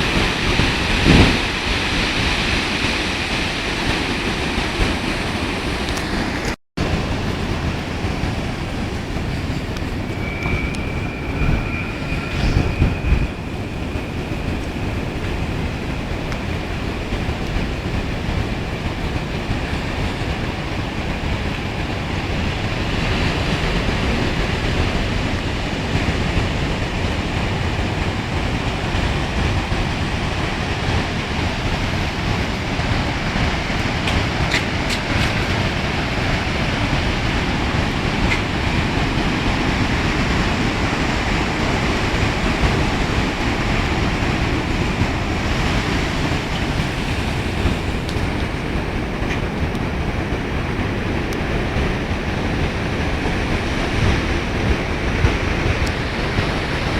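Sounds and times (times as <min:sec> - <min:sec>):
storm surf: 0:00.0 - 0:56.9
wind: 0:00.0 - 0:56.9.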